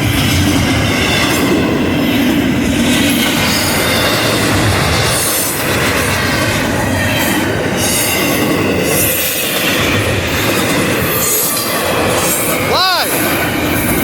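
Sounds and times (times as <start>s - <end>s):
freight train wheels rumbling on rail: 0.0s - 14.0s
train wheel squeal: 0.0s - 14.0s.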